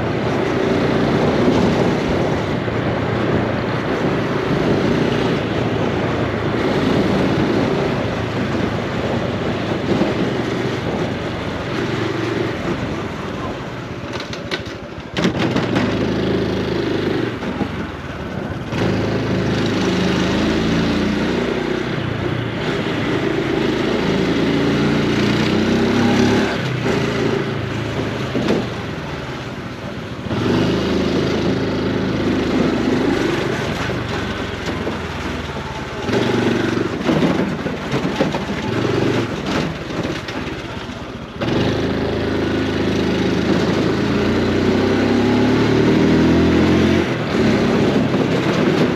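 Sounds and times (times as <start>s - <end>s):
motorcycle engine under way: 0.0s - 48.9s.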